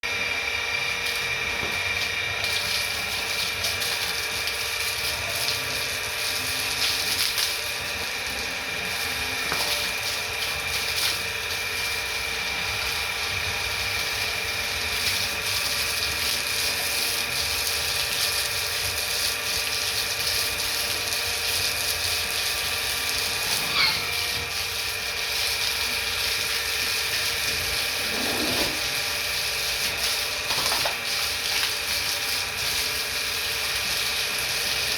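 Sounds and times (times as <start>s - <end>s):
mechanical drone with high whine: 0.0s - 34.9s.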